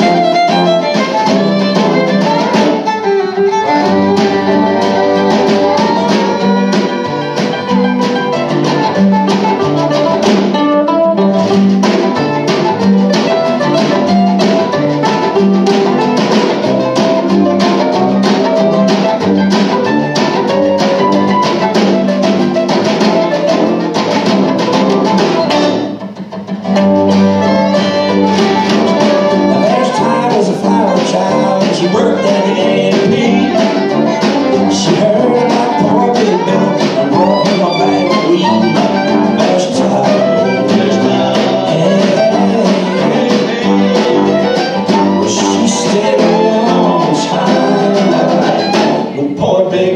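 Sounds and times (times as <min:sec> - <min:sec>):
fiddle: 0:00.0 - 0:49.2
acoustic guitar: 0:00.0 - 0:49.9
mandolin: 0:00.0 - 0:49.9.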